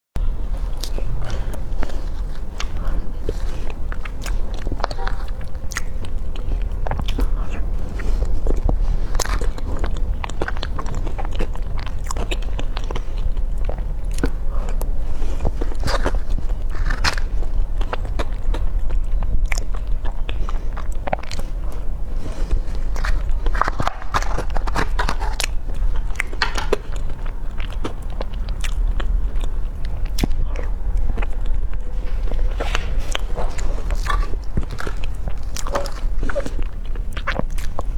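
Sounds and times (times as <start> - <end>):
person chewing food: 0.2 - 37.9
steady low hum: 0.2 - 37.9.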